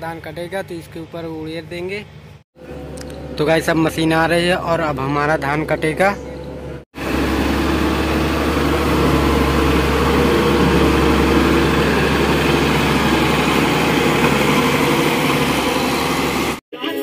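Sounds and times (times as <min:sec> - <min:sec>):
combine harvester engine drone: 0:02.1 - 0:16.6.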